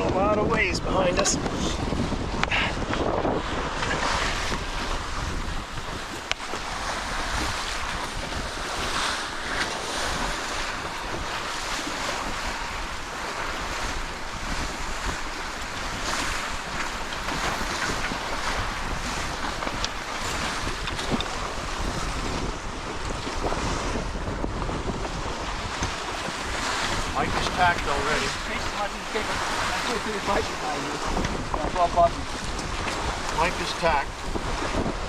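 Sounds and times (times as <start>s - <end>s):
water rushing past boat hull: 0.0s - 35.0s
wind buffeting microphone: 0.0s - 35.0s.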